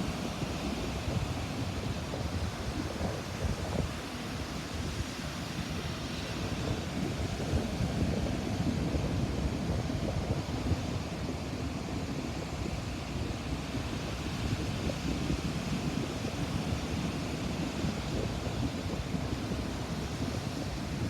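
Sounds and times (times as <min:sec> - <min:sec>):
ocean waves breaking on beach: 0:00.0 - 0:21.0
wind noise on microphone: 0:00.0 - 0:21.0.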